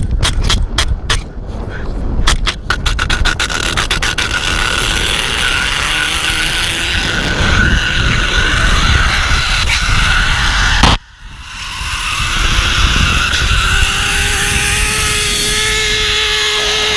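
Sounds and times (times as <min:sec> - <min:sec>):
wind rushing over microphone: 0:00.0 - 0:16.9
zipline carabiner whining on cable: 0:02.4 - 0:16.9.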